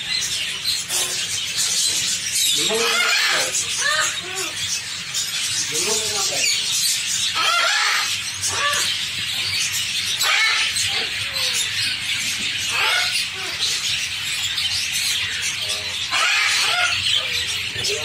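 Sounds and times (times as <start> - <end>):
budgerigars twittering: 0.0 - 18.0.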